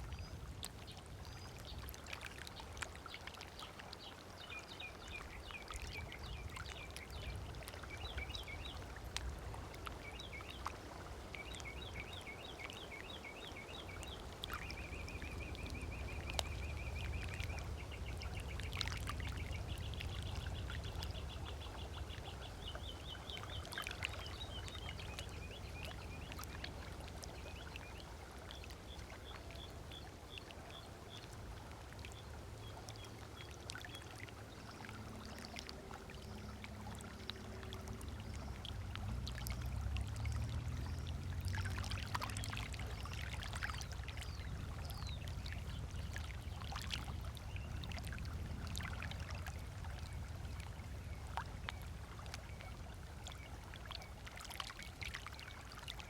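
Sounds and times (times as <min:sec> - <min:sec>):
songbirds chirping: 0:00.0 - 0:48.2
lake water lapping: 0:00.0 - 0:56.0.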